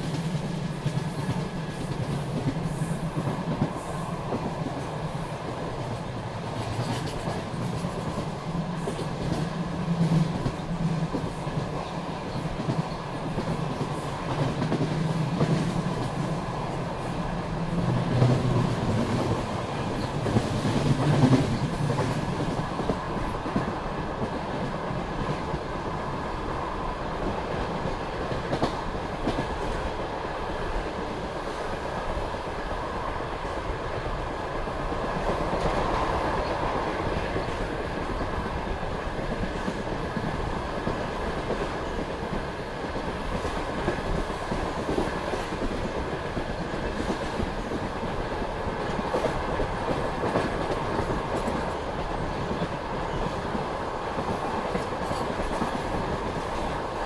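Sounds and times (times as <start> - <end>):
train low rumble: 0.0 - 57.0
train wheels clattering on rails: 0.0 - 57.0.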